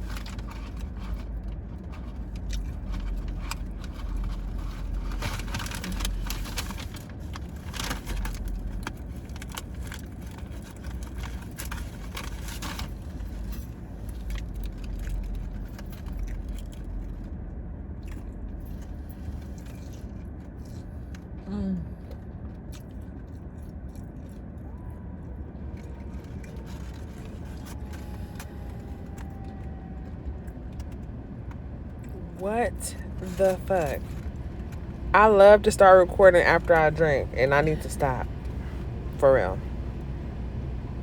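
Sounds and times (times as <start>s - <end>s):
chewing and crunching: 0.0s - 40.8s
low rumble of car: 0.0s - 41.0s.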